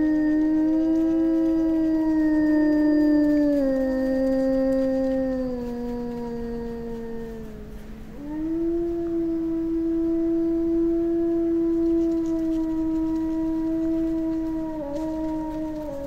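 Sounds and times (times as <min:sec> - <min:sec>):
wolf howling: 0:00.0 - 0:16.0.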